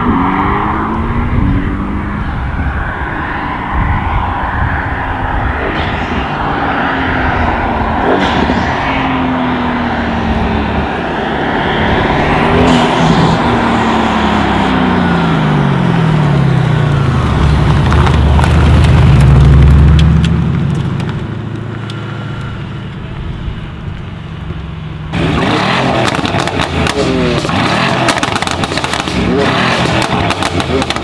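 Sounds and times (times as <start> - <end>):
car engine revving: 0.0 - 22.8, 25.0 - 31.0.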